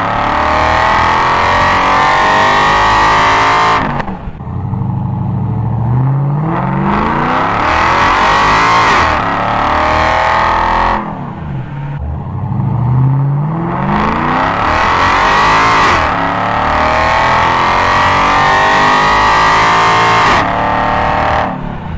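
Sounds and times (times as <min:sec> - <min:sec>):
car engine revving loudly: 0:00.0 - 0:21.9.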